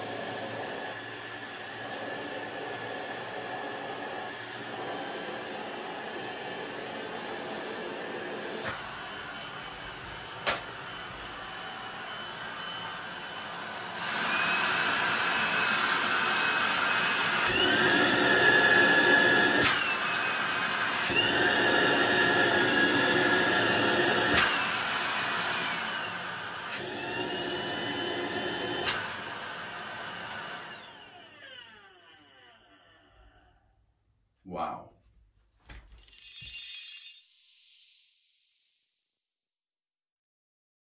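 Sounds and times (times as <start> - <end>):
cordless vacuum motor whine: 0.0 - 33.6.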